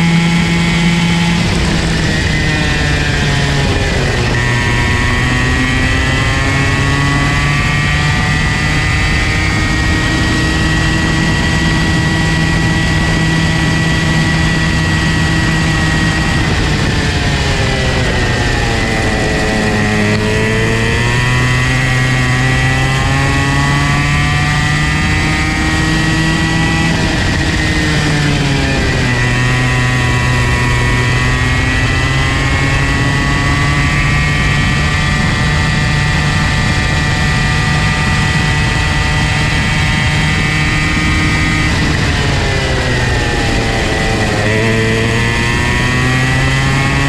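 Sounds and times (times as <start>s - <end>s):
kart engine revving: 0.0s - 47.0s.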